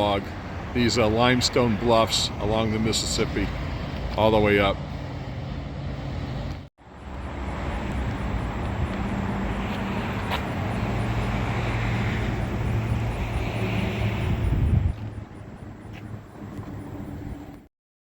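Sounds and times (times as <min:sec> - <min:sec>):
car road and engine noise: 0:00.0 - 0:17.7.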